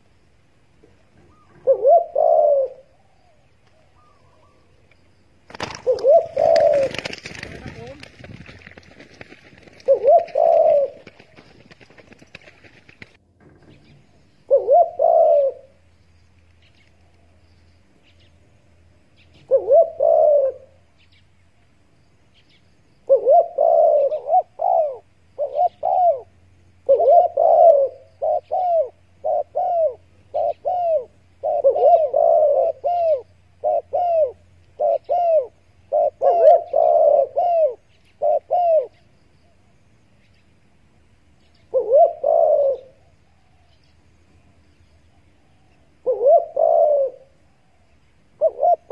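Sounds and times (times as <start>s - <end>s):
doves cooing: 0.8s - 17.4s, 18.1s - 21.2s, 22.4s - 48.9s.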